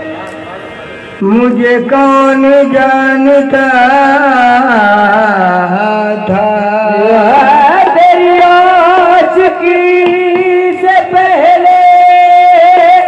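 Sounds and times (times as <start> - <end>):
person singing long ornamented notes: 0.0 - 13.0.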